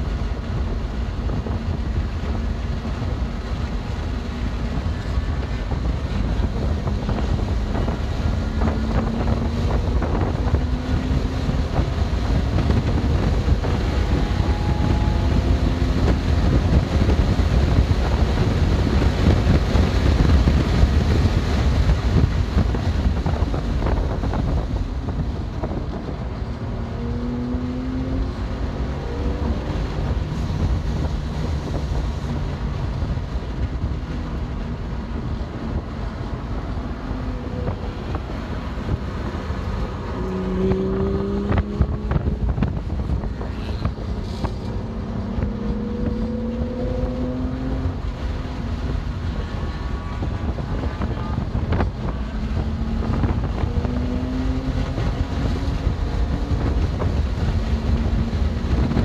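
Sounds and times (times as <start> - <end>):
car engine accelerating: 0.0 - 59.0
road and wind noise: 0.0 - 59.0.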